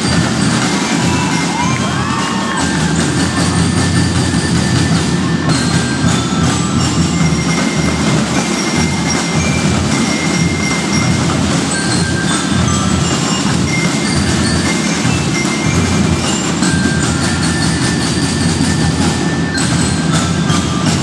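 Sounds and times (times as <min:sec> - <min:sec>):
ringing bell-lyre notes: 0:00.0 - 0:21.0
snare and bass drums beating: 0:00.0 - 0:21.0.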